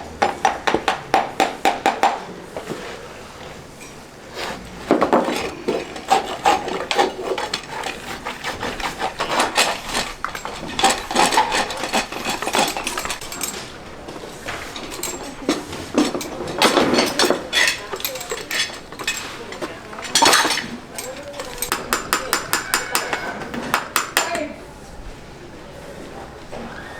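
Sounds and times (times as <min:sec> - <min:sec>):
hand tools scraping a hoof: 0:00.2 - 0:24.5.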